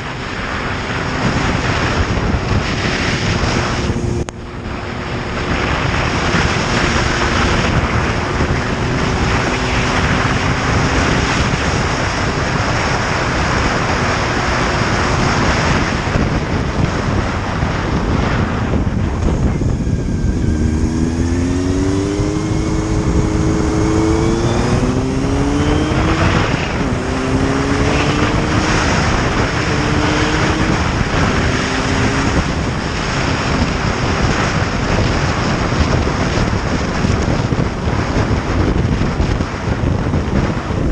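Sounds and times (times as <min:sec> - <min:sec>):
motorcycle engine accelerating: 0:00.0 - 0:40.9
wind rush over microphone: 0:00.0 - 0:40.9.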